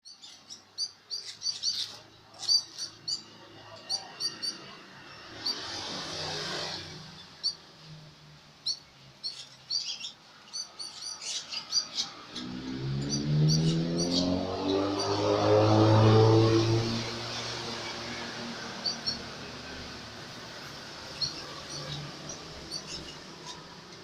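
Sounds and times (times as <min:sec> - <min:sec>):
canaries chirping: 0:00.0 - 0:24.0.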